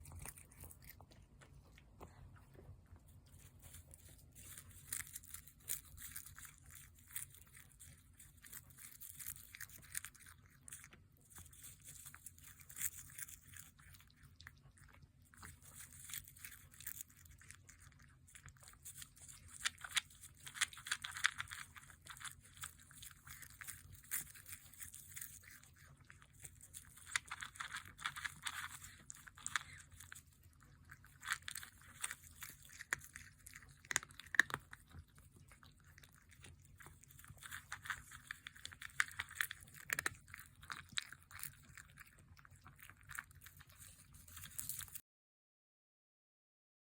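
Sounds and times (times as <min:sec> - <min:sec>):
cat crunching dry kibble: 0:00.0 - 0:45.0.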